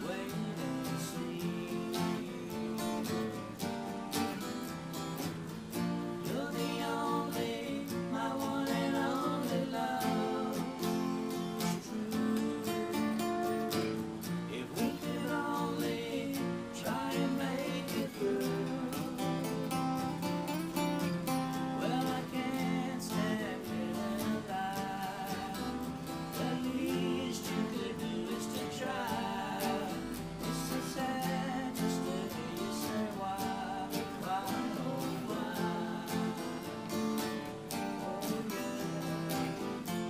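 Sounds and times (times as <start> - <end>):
acoustic guitars strumming: 0.0 - 40.0.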